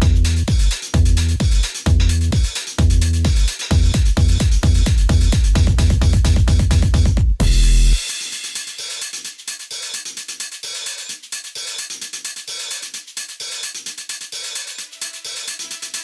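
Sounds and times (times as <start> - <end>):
fast drum beat music: 0.0 - 16.0.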